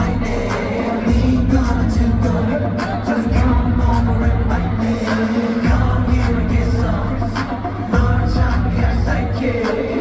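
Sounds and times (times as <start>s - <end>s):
heavy bass line: 0.0s - 10.0s
percussion beat: 0.0s - 10.0s
person singing: 0.0s - 10.0s
pop song over loudspeakers: 0.0s - 10.0s.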